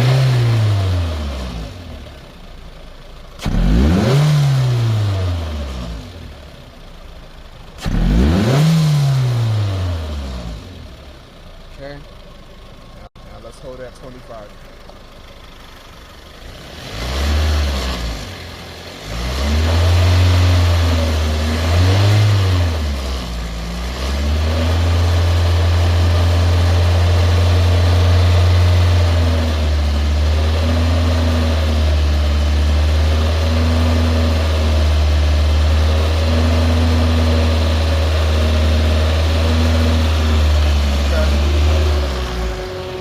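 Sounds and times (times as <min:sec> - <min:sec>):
car engine revving: 0:00.0 - 0:02.6, 0:03.4 - 0:06.8, 0:07.7 - 0:43.0.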